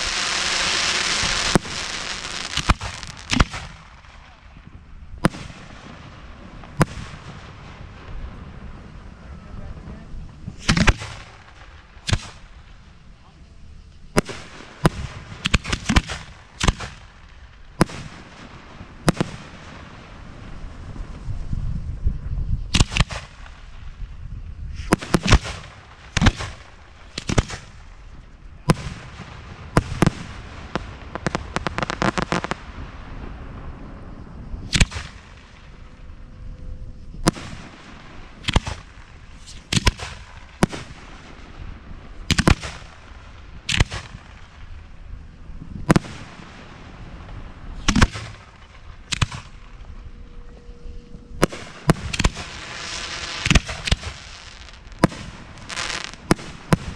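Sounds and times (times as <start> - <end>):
fireworks bangs: 0.0 - 13.3, 14.0 - 21.6, 22.7 - 56.9
fireworks crackling: 0.0 - 56.9.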